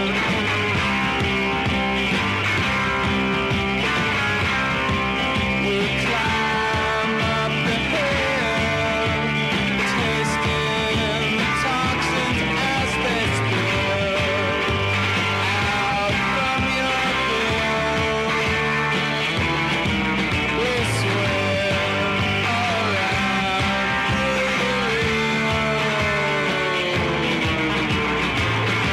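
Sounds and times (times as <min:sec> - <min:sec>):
punk rock song: 0:00.0 - 0:28.9.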